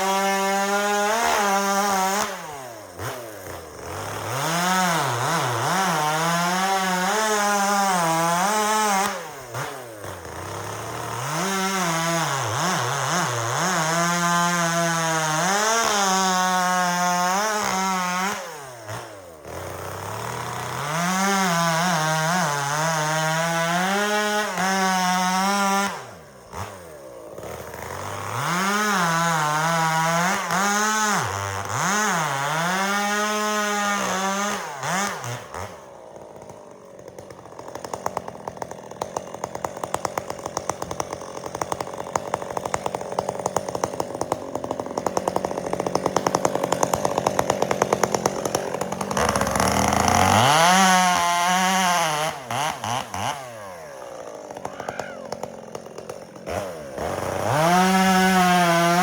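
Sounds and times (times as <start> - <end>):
chainsaw cutting through log: 0.0 - 59.0
chainsaw revving: 0.0 - 59.0.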